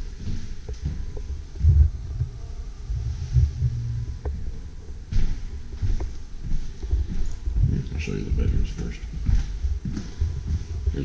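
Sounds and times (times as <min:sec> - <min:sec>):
footsteps on hardwood floors: 0:00.0 - 0:02.3, 0:03.2 - 0:11.0.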